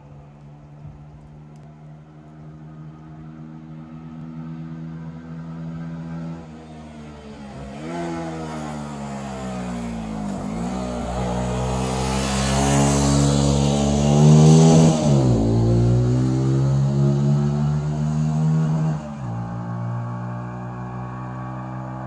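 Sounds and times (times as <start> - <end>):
motorcycle engine accelerating: 0.6 - 22.0.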